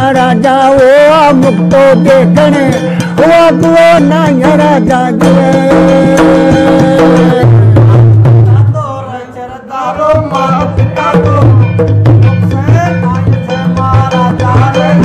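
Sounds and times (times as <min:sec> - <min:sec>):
hand drums playing: 0:00.0 - 0:15.0.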